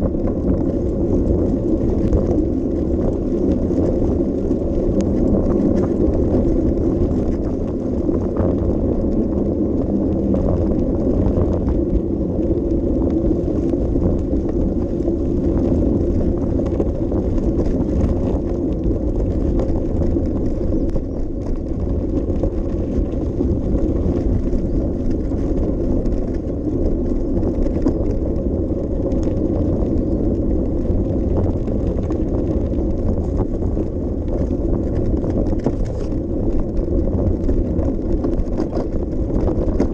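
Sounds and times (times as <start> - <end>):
bicycle tyres rolling on path: 0.0 - 39.9.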